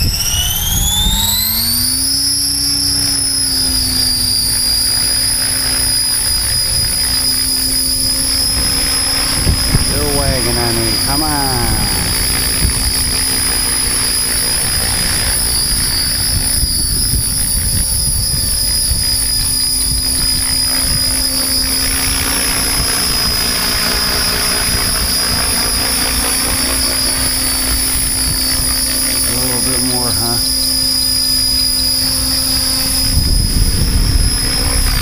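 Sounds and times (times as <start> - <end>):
helicopter rotor drone: 0.0 - 35.0
high motor and gear whine: 0.0 - 35.0.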